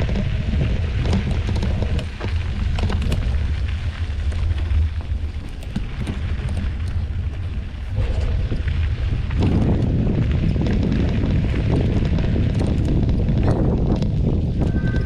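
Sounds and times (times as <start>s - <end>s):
bike clicks and rattles: 0.0s - 14.7s
wind buffeting microphone: 0.0s - 15.0s.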